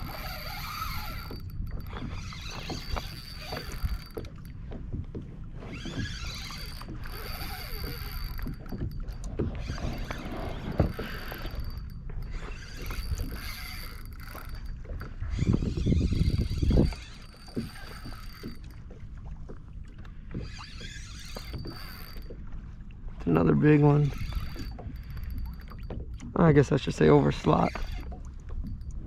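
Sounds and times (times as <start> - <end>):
low rumbling water: 0.0 - 29.0.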